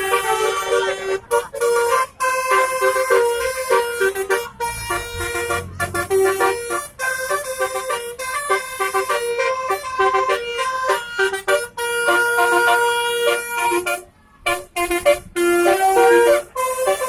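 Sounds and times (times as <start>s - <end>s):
multi-tone air horn tune: 0.0s - 17.0s.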